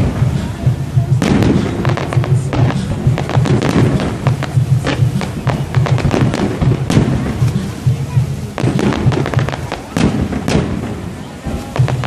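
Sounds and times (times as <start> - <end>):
music with pulsing beat: 0.0 - 10.9
fireworks bangs and crackles: 0.0 - 12.0.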